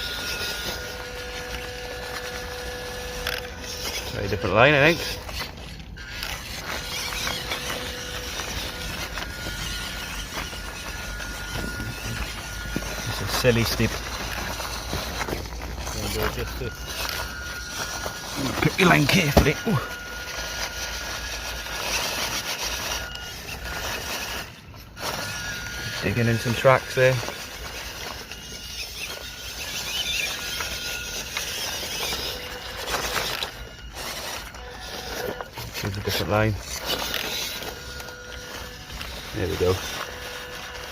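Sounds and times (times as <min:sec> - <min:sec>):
electric motor whining: 0:00.0 - 0:40.9
tyres clicking and scraping: 0:00.0 - 0:40.9.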